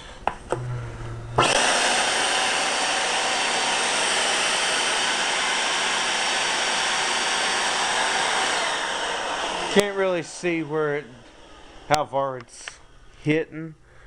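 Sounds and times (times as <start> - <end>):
shop vac rush of air: 0.6 - 13.2.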